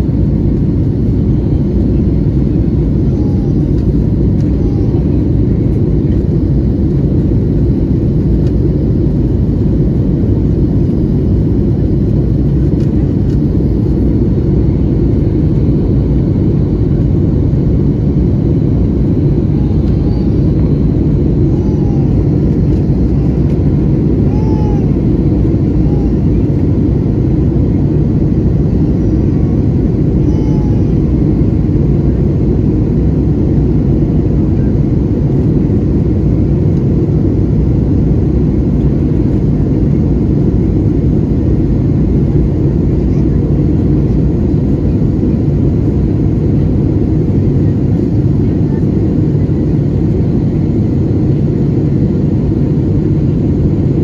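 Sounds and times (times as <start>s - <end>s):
jet cabin engine drone: 0.0s - 54.0s.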